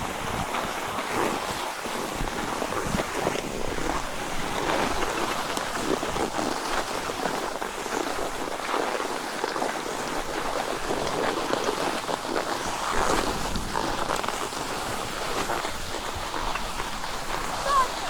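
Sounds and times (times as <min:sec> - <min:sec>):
skis sliding over packed snow: 0:00.0 - 0:18.0.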